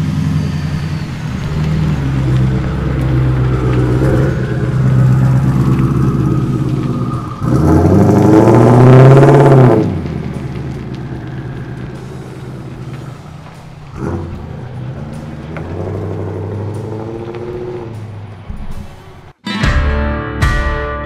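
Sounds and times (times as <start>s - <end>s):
truck engine revving: 0.0s - 19.4s.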